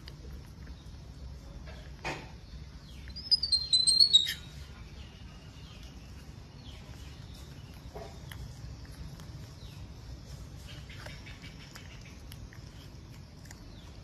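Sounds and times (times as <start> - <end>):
bird chirping: 2.1 - 14.0.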